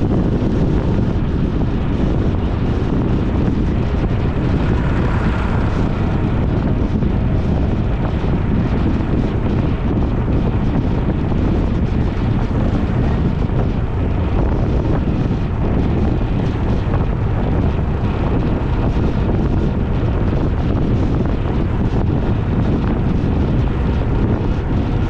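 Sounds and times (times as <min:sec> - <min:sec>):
road and vehicle noise: 0:00.0 - 0:25.0
wind buffeting microphone: 0:00.0 - 0:25.0.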